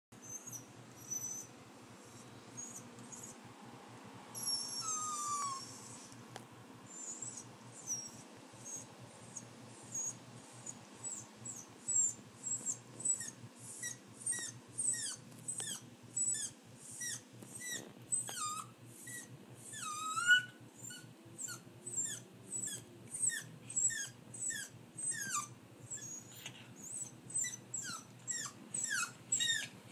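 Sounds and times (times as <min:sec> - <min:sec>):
dog whining and yelping: 0:00.2 - 0:03.5, 0:04.3 - 0:06.2, 0:06.9 - 0:29.9.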